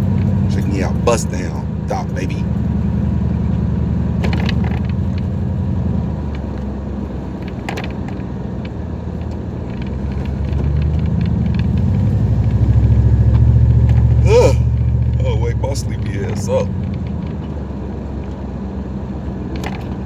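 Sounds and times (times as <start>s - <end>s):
pickup engine and road noise: 0.0s - 20.0s.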